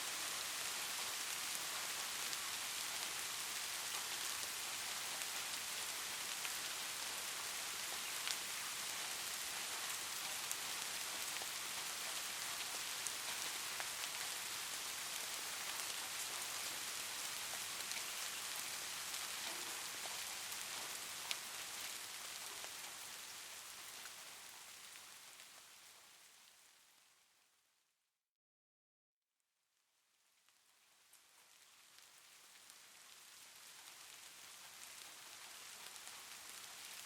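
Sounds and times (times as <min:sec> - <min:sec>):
steady rain falling: 0:00.0 - 0:27.6, 0:30.4 - 0:37.0.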